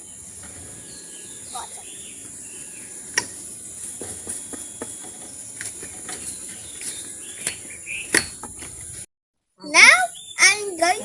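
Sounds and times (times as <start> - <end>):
crickets chirping: 0.0 - 9.0, 9.6 - 11.0.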